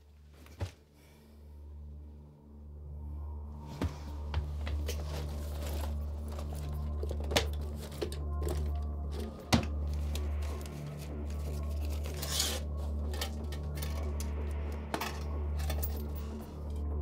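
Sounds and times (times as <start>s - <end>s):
low drone: 1.0s - 17.0s.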